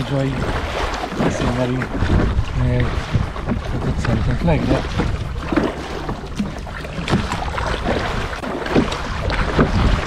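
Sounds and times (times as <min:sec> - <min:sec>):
paddle blades splashing: 0:00.0 - 0:10.0
water sloshing around boat: 0:00.0 - 0:10.0
wind rumbling on microphone: 0:00.0 - 0:10.0.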